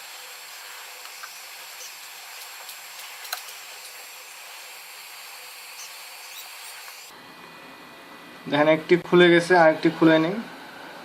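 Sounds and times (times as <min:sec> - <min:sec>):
hot-air blower hissing: 0:00.0 - 0:11.0.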